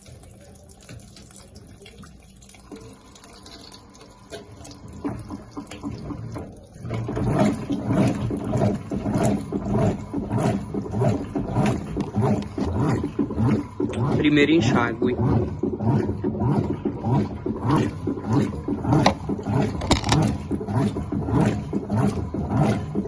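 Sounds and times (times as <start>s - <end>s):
washing machine agitator swishing: 0.0s - 23.0s
water running into washing machine: 0.0s - 23.0s.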